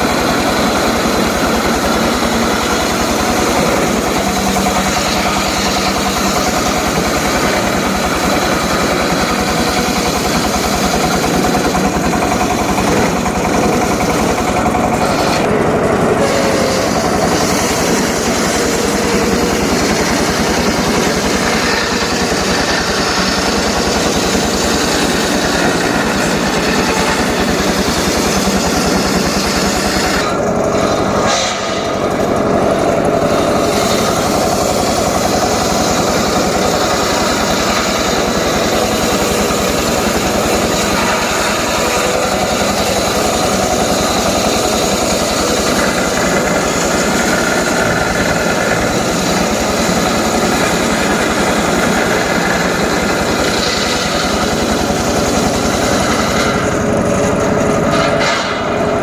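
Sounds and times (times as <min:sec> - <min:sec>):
circular saw running: 0:00.0 - 0:59.0.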